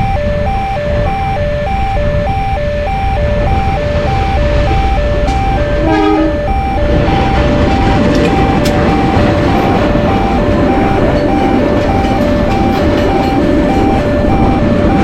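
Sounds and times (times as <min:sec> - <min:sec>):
loud low rumble: 0:00.0 - 0:15.0
two-tone crossing alarm: 0:00.0 - 0:15.0
horn blast: 0:02.0 - 0:15.0.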